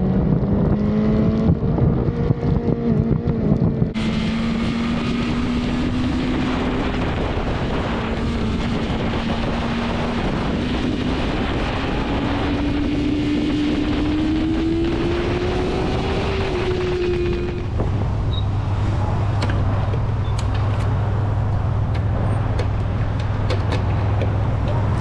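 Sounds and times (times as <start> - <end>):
motorcycle engine revving: 0.0 - 25.0
wind noise: 0.0 - 25.0.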